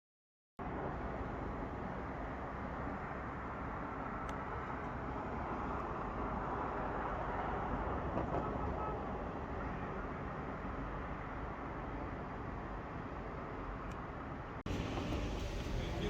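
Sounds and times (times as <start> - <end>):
road traffic rumble: 0.6 - 16.0.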